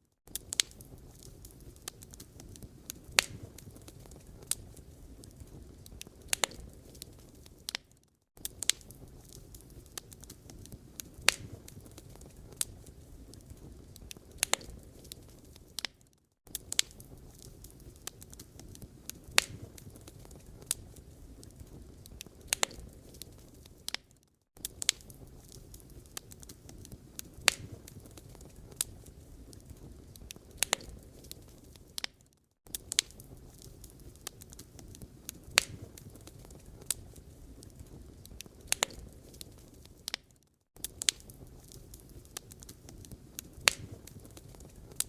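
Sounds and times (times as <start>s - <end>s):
wood fire crackling: 0.3s - 45.0s.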